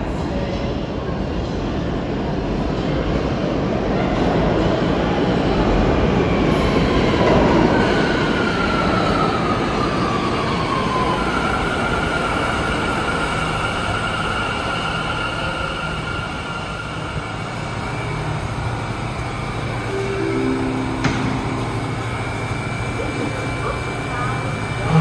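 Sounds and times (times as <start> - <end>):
high train whine: 0.0 - 25.0
subway train rumbling: 0.0 - 25.0.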